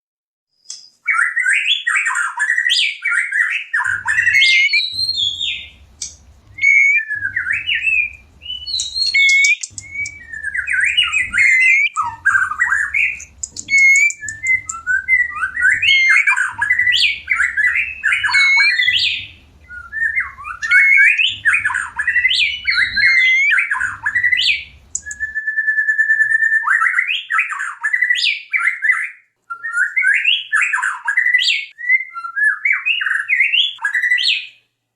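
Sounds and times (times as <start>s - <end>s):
bird singing varied whistles: 0.5s - 34.6s.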